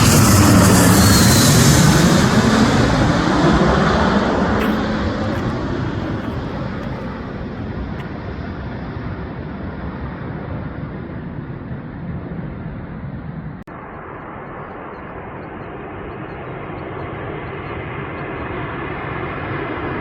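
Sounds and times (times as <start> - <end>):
jet airliner engine noise: 0.0 - 20.0.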